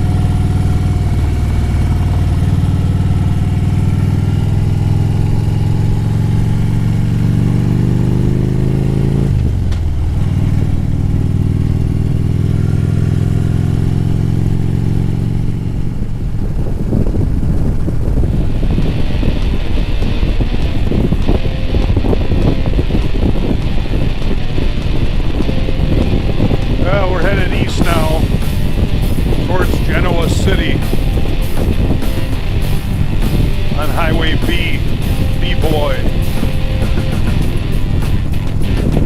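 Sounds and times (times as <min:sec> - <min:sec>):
motorcycle engine running: 0:00.0 - 0:39.0
wind noise: 0:00.0 - 0:39.0.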